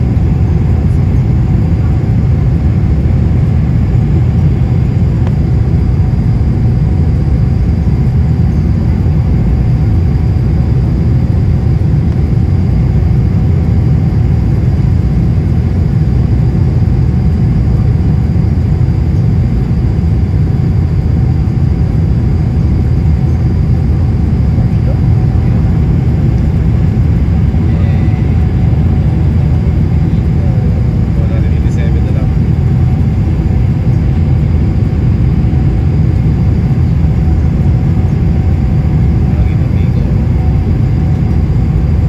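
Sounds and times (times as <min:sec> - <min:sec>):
faint steady whine: 0:00.0 - 0:42.0
jet cabin low rumble: 0:00.0 - 0:42.0.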